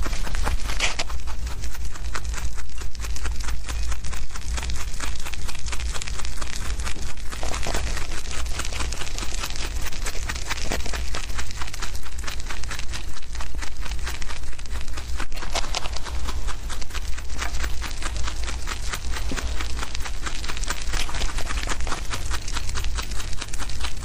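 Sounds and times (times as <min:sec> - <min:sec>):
low hum: 0:00.0 - 0:24.0
rabbits chewing grass: 0:00.0 - 0:24.0.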